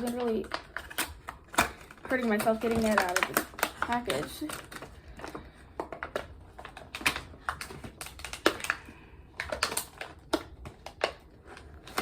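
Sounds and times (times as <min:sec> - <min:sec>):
plastic packaging clicking: 0:00.0 - 0:12.0.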